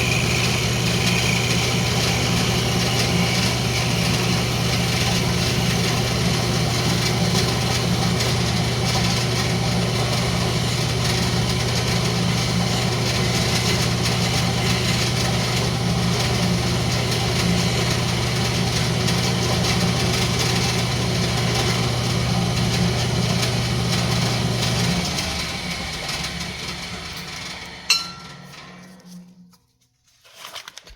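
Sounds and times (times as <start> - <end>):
wood lathe motor humming: 0.0 - 28.6.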